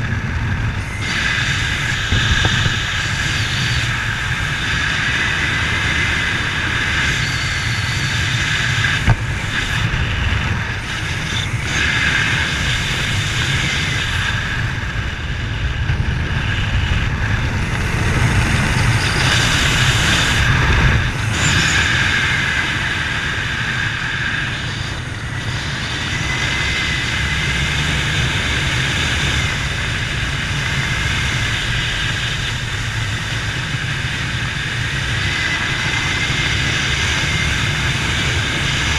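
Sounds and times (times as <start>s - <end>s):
vehicle rumble with whine: 0.0s - 38.9s.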